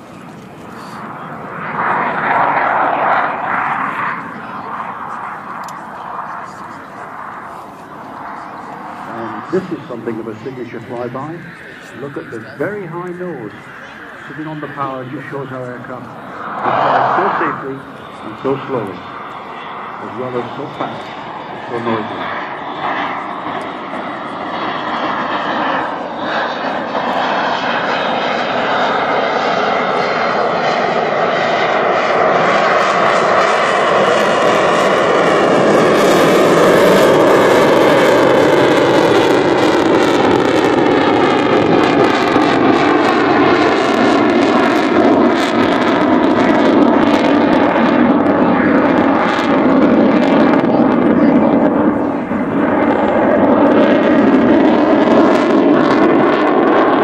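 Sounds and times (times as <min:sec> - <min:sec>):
loud jet noise: 0:00.0 - 0:57.0.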